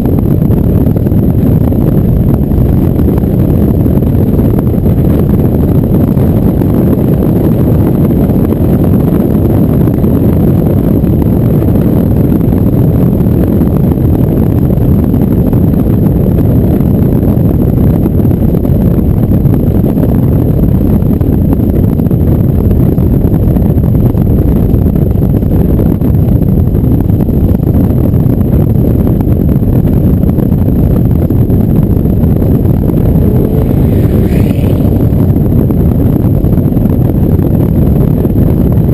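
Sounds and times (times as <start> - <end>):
wind rush and rumble: 0.0 - 38.9.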